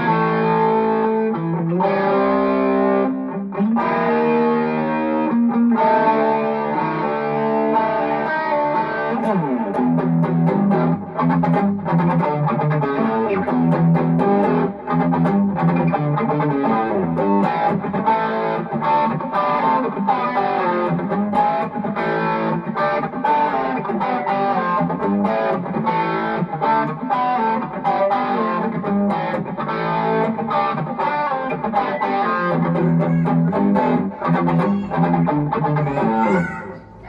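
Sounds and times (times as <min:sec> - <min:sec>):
overdriven electric guitar riff: 0:00.0 - 0:37.0.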